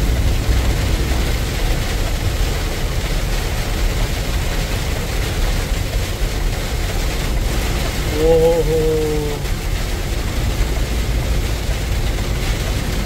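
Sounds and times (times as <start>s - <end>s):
rain hissing on windshield: 0.0s - 13.0s
truck engine and road rumble: 0.0s - 13.0s.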